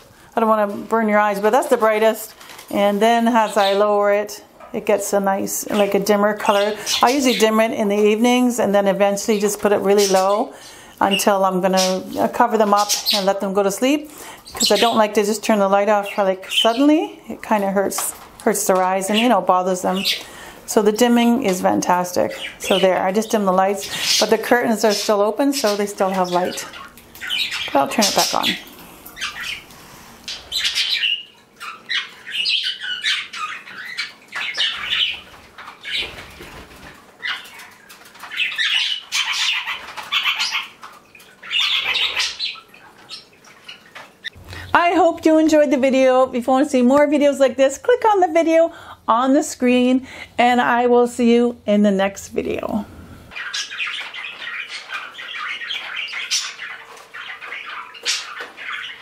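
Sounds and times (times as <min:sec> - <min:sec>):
parrots chirping and chattering: 0:00.0 - 0:45.6, 0:53.2 - 0:59.0.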